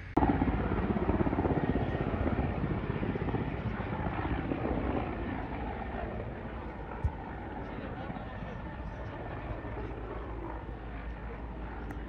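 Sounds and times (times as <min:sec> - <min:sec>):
helicopter rotor chopping: 0:00.0 - 0:12.0.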